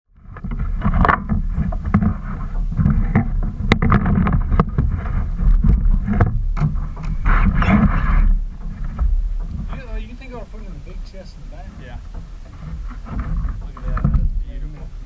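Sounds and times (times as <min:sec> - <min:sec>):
water noise: 0:00.1 - 0:15.0
wind rumbling: 0:00.1 - 0:15.0
sharp knocks and clicks: 0:00.2 - 0:14.9.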